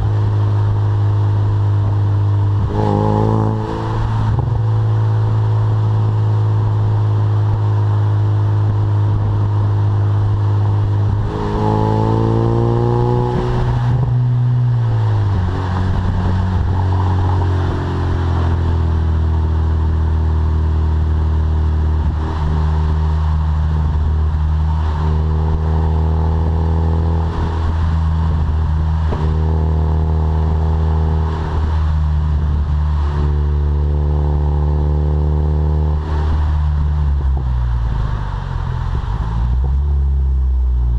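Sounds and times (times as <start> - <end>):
car engine through exhaust: 0.0 - 40.9.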